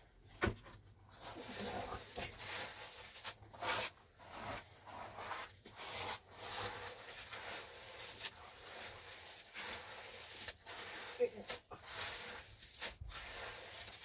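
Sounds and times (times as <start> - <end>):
rough scraping strokes: 1.1 - 14.0.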